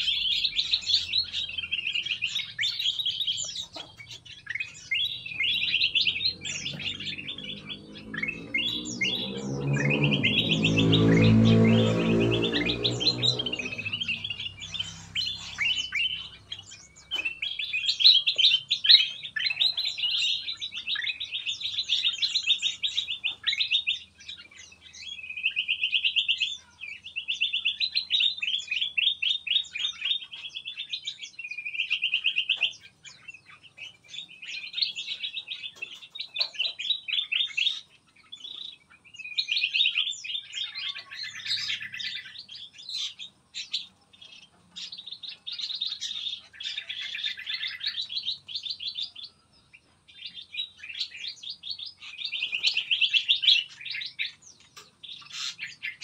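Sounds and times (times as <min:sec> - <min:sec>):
small songbirds chattering trills: 0:00.0 - 0:56.0.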